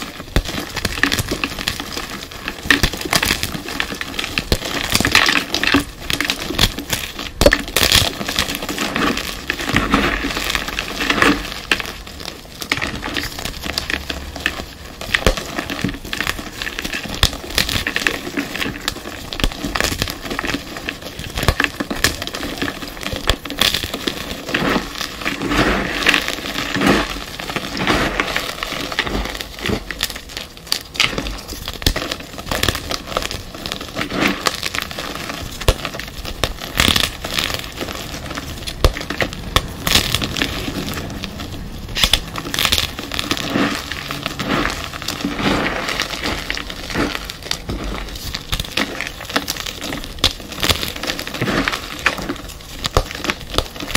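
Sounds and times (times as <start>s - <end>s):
chalk blocks crunching: 0.0s - 53.9s.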